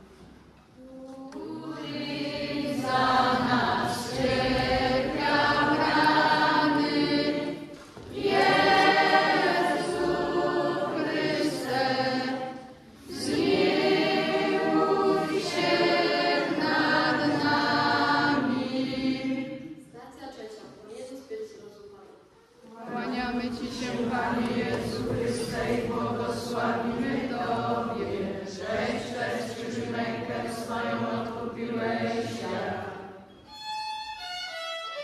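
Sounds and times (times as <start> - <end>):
choir singing a church song: 0.8 - 19.9, 22.6 - 33.4.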